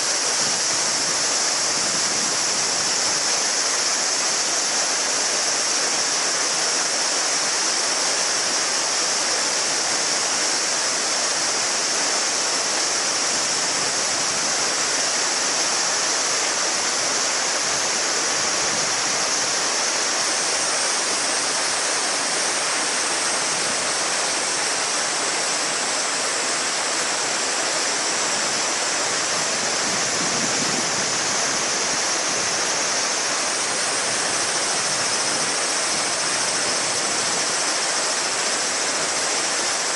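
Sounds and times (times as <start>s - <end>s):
cicadas droning: 0.0s - 39.9s
river babbling over stones: 0.0s - 39.9s.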